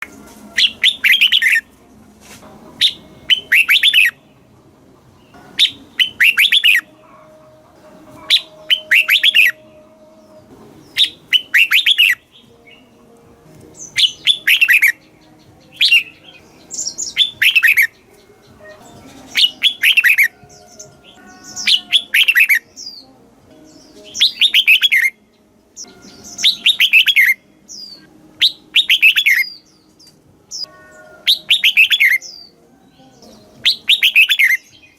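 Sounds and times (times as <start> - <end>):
bulbul singing: 0.0 - 1.9, 2.7 - 34.9.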